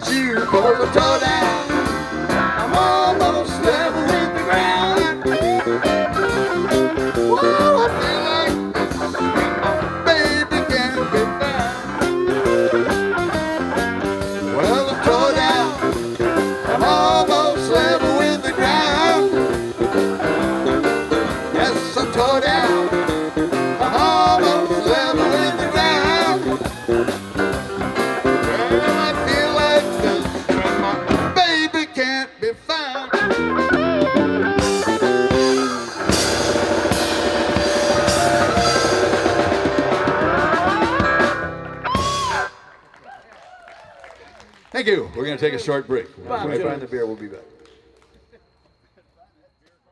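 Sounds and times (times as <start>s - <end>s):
electric bass: 0.0s - 31.4s, 33.2s - 42.6s
drum kit: 0.0s - 31.5s, 33.1s - 42.5s
keyboard: 0.0s - 31.7s, 33.1s - 42.7s
electric guitar lead lines: 0.7s - 31.3s, 33.2s - 42.6s.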